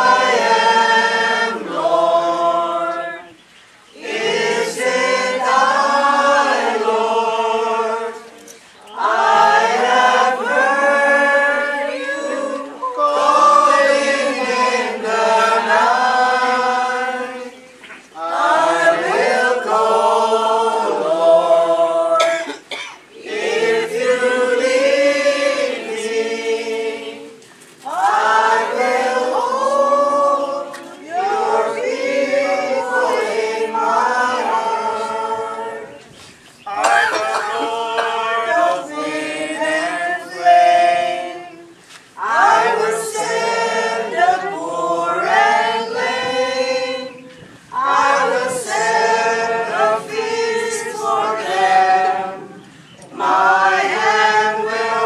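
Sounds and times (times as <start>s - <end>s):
congregation singing a hymn: 0.0s - 55.0s.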